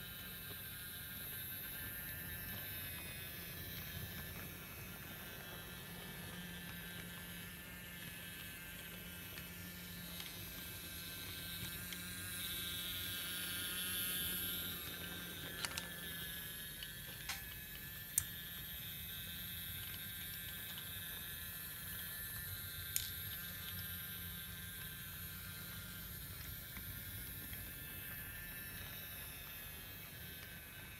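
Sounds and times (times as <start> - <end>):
toy train clicks: 0.0 - 30.9
toy train motor whirring: 0.0 - 30.9.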